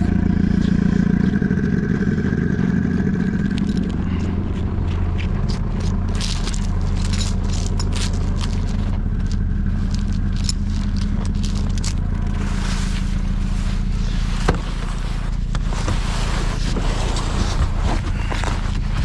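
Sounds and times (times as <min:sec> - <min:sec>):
vehicle engine idling: 0:00.0 - 0:19.0
scraping and rustling: 0:03.2 - 0:04.7, 0:05.3 - 0:19.0.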